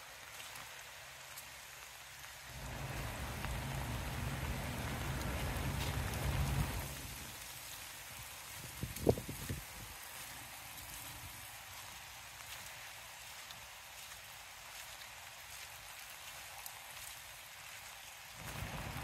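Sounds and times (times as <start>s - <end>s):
rain on wet path and leaves: 0.0s - 19.0s.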